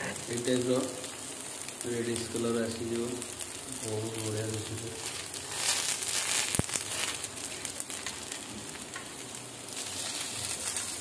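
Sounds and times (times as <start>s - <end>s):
fritters sizzling on a griddle: 0.0s - 11.0s.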